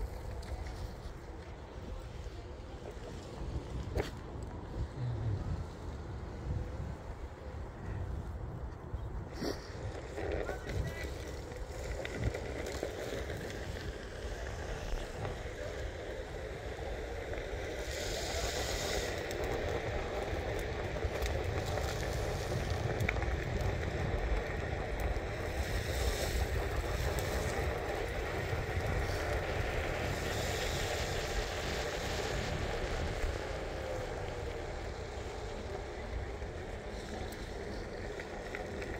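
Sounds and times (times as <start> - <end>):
wheels rolling over pavement: 0.0 - 38.9
wind buffeting microphone: 0.0 - 38.9.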